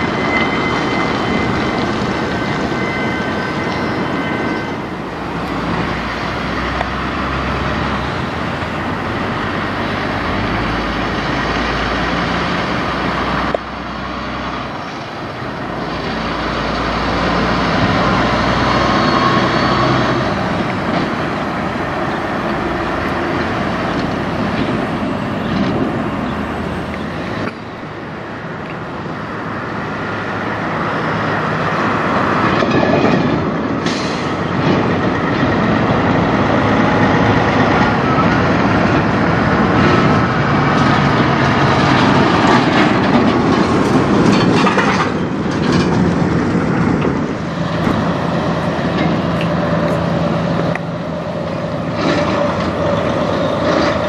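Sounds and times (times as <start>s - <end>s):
diesel truck engines: 0.0s - 54.0s
tyre and road noise: 0.0s - 54.0s.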